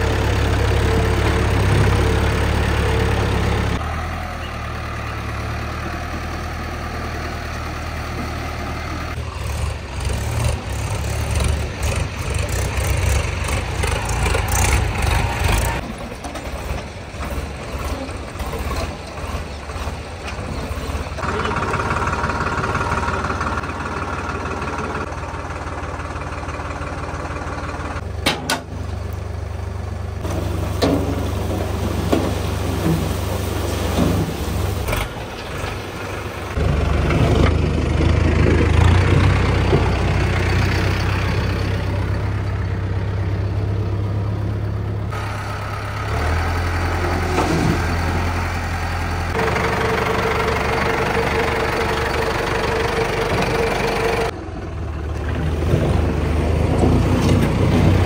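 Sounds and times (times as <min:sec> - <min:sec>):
tractor diesel engines running: 0:00.0 - 0:58.0.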